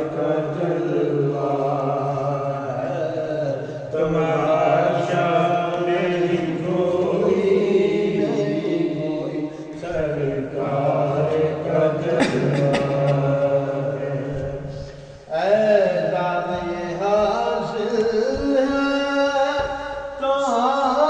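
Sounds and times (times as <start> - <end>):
person singing devotional song: 0.0 - 21.0.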